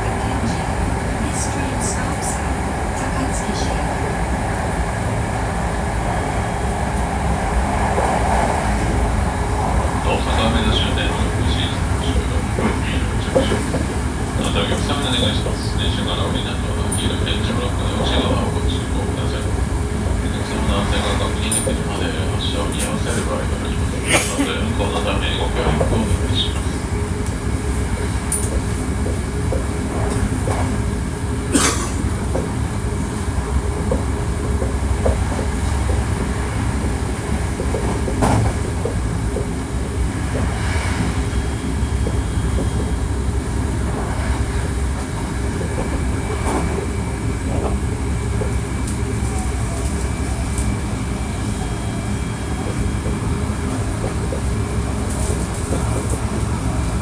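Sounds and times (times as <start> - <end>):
rail joint clicks: 0.0 - 57.0
wheels rumbling on rail: 0.0 - 57.0.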